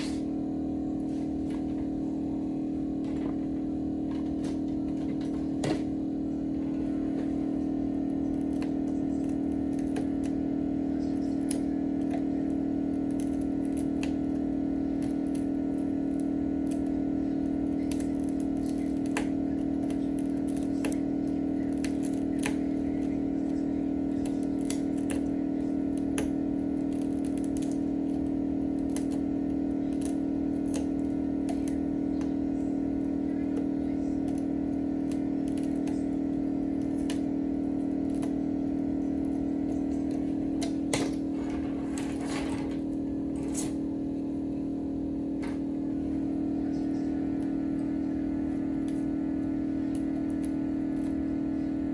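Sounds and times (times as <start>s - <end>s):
low machine hum: 0.0s - 51.9s.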